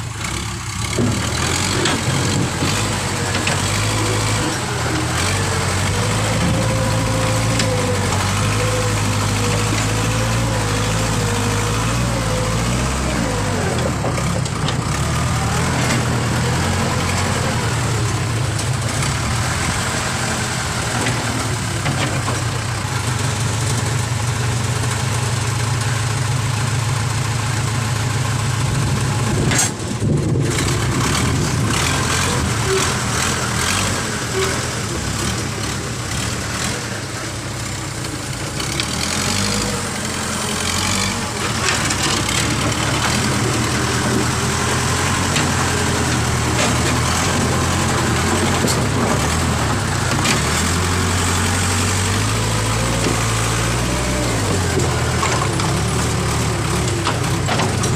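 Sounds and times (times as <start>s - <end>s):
heavy machinery engine running: 0.0s - 57.9s.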